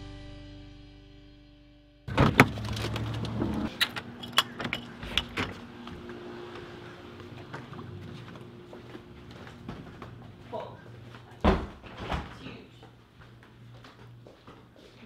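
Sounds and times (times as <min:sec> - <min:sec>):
steady low hum: 0:02.1 - 0:15.0.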